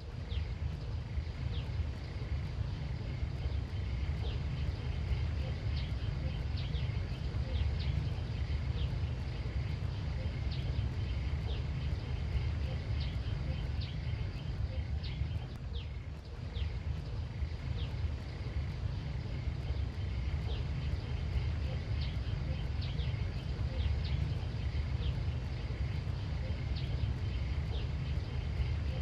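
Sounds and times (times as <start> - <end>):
high hum: 0.0 - 29.0
low rumble: 0.0 - 29.0.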